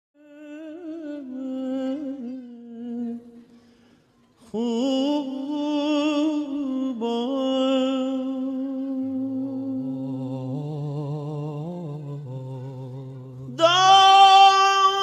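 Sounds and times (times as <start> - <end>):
person singing wordless melody: 0.2 - 3.7, 4.3 - 15.0.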